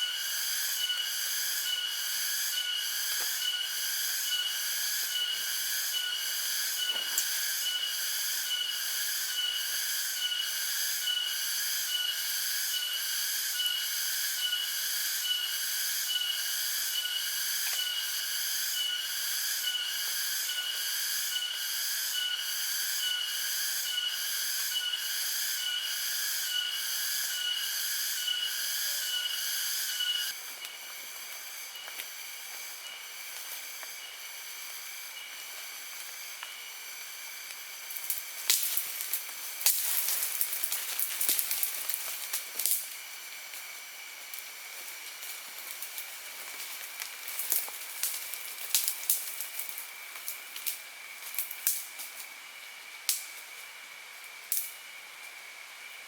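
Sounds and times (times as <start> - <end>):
insects pulsing buzz: 0.0 - 56.0.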